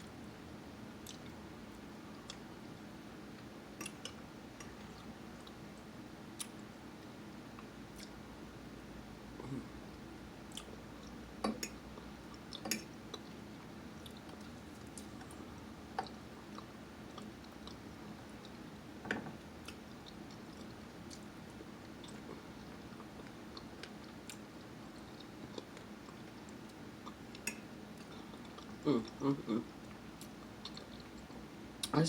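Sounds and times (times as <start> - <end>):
person chewing food: 1.0 - 8.3, 10.4 - 18.7, 19.3 - 31.9.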